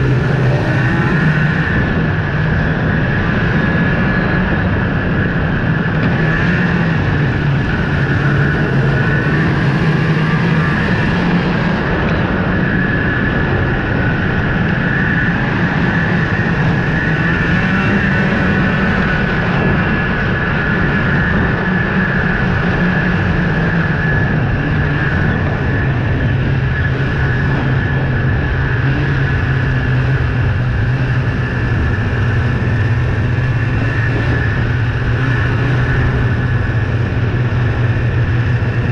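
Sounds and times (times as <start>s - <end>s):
high whine: 0.0s - 38.9s
snowmobile engine and track: 0.0s - 38.9s.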